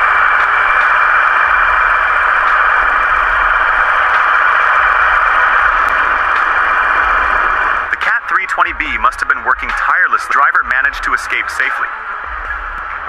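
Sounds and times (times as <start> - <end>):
loud static hiss: 0.0 - 13.0.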